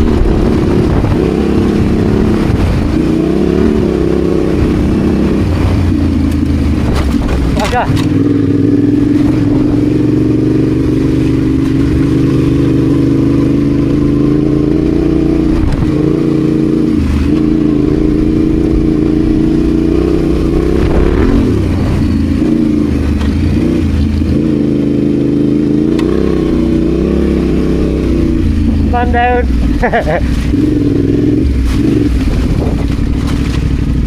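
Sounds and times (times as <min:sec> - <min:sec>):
motorcycle engine under load: 0:00.0 - 0:34.0.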